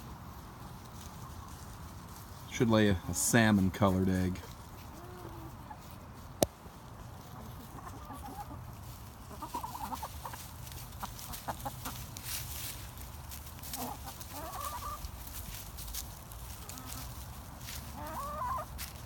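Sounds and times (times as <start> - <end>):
hens clucking: 0.3 - 19.0.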